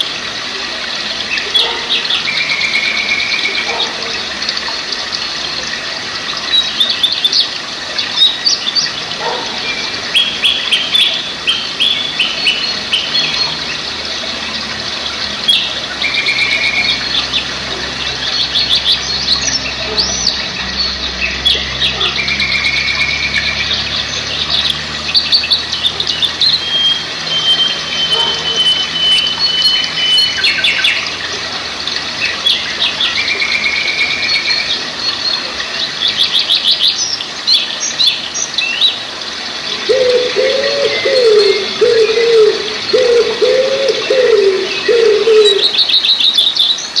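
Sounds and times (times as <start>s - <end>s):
mountain stream rushing: 0.0s - 47.0s
songbirds singing: 0.0s - 47.0s.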